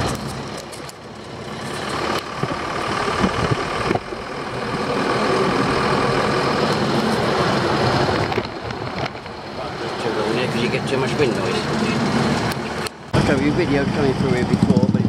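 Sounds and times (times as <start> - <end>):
vehicle engine running: 0.0 - 15.0
wind and road noise: 0.0 - 15.0.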